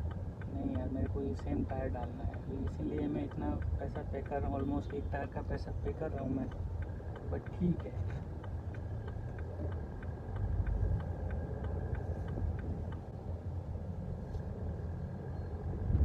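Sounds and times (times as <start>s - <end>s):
car rumble: 0.0s - 16.0s
faint light ticking: 0.0s - 16.0s.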